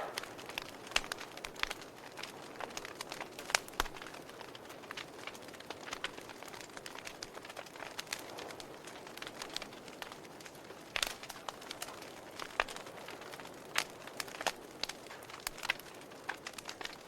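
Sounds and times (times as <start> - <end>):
soft steady hiss: 0.0 - 17.0
wood fire crackling: 0.0 - 17.0.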